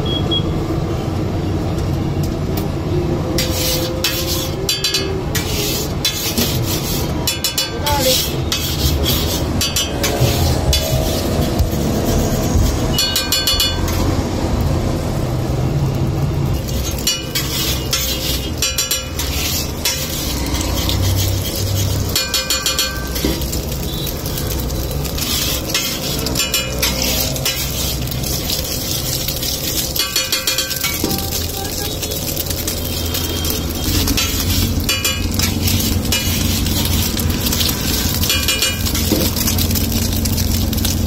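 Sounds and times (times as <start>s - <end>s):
spatula chopping on metal griddle: 3.4s - 14.0s, 16.6s - 40.1s.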